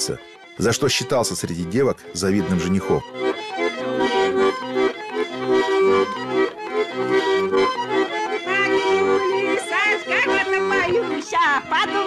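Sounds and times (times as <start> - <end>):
button accordion playing folk tune: 0.0 - 12.0.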